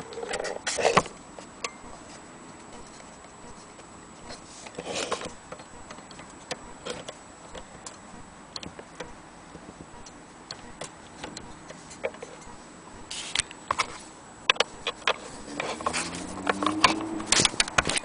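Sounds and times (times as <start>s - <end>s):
gramophone parts clicking and knocking: 0.0s - 12.6s, 14.5s - 18.0s.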